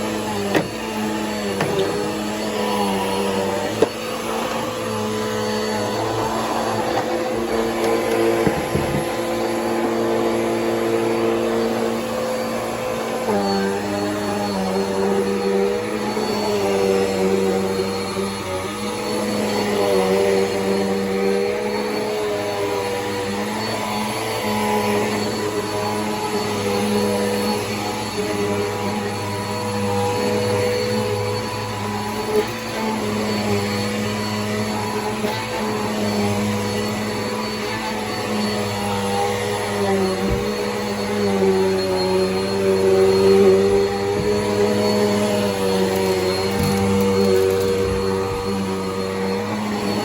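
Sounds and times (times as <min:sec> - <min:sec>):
vacuum cleaner whining: 0:00.0 - 0:50.0.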